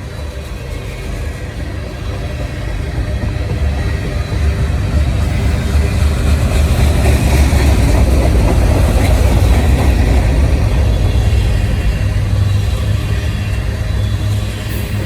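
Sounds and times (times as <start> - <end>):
freight train passing: 0.0 - 15.0
wheels rushing on rail: 0.0 - 15.0.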